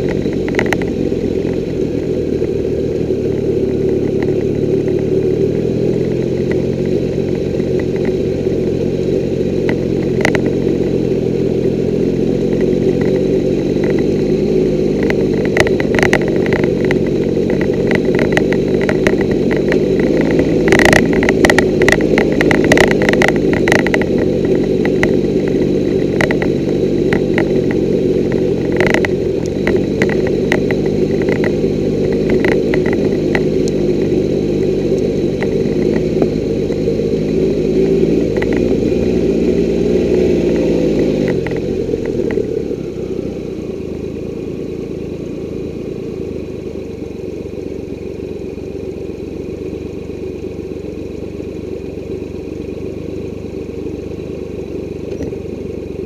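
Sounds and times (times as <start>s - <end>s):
motorcycle engine running: 0.0s - 56.0s
sharp clicks and rattles: 0.0s - 56.0s.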